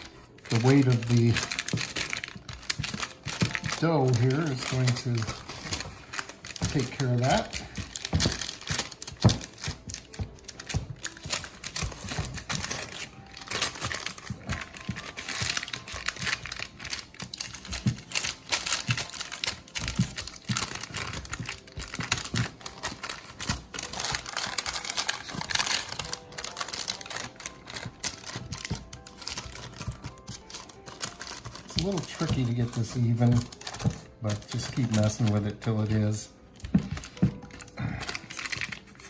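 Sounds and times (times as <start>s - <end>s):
parchment paper crinkling: 0.0s - 39.0s.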